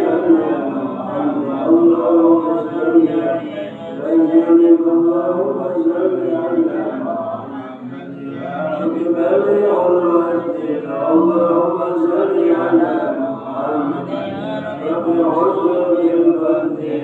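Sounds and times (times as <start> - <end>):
man chanting in hoarse voice: 0.0 - 17.0.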